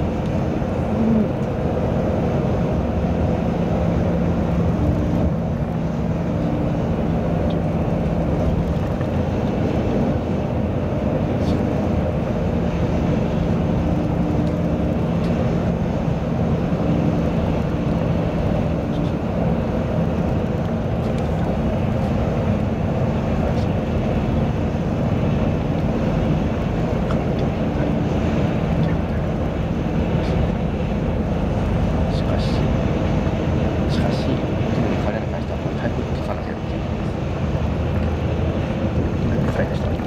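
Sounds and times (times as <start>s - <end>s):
car engine drone: 0.0s - 40.0s.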